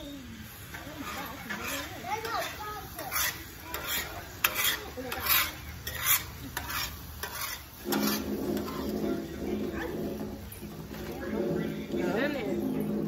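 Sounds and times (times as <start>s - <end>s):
eggs sizzling: 0.0s - 13.0s
spatula scraping pan: 0.6s - 13.0s.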